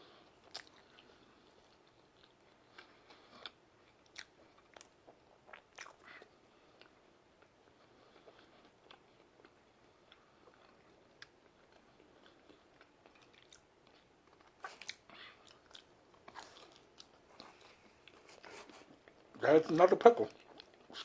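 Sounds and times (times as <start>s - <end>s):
person chewing: 0.0s - 19.4s, 20.3s - 21.0s.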